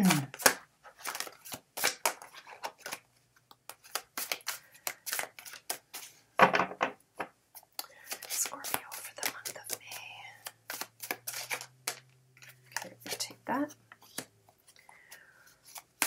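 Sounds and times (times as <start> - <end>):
cards being shuffled: 0.0 - 6.2, 7.6 - 16.0.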